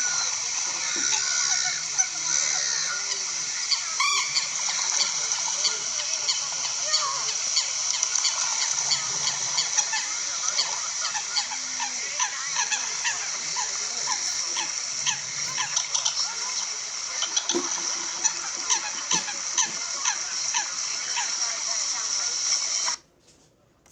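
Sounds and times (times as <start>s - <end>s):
coots calling: 0.0s - 23.0s
steady high hiss: 0.0s - 23.1s.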